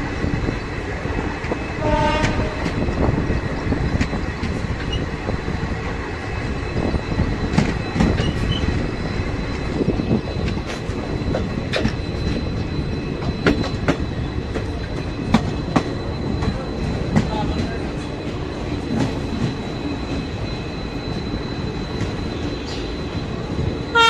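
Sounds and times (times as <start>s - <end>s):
high wheel squeal: 0.1s - 24.0s.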